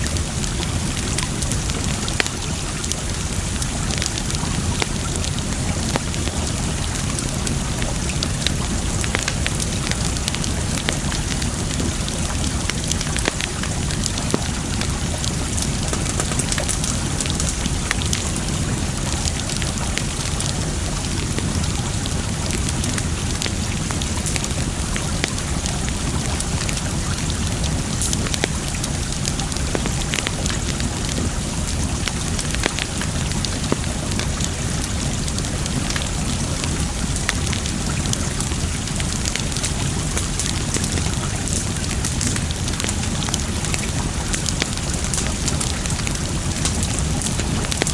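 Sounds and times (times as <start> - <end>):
water rushing: 0.0 - 47.9
wood fire crackling: 0.0 - 47.9.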